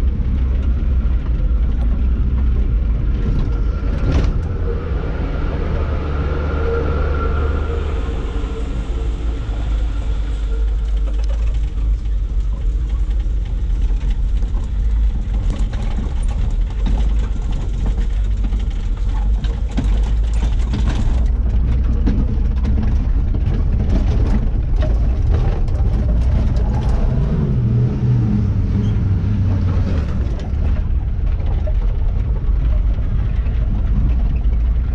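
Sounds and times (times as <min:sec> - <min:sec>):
diesel truck engine climbing: 0:00.0 - 0:34.9.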